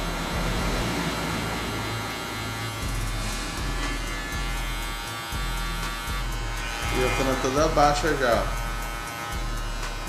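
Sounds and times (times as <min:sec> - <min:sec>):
hair clipper motor buzzing: 0:00.0 - 0:10.0.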